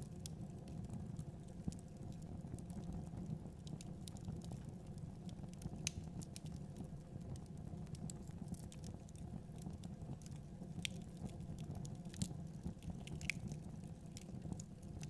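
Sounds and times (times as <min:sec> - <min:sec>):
fire pops and crackles: 0:00.0 - 0:15.0
low rumble of flames: 0:00.0 - 0:15.0.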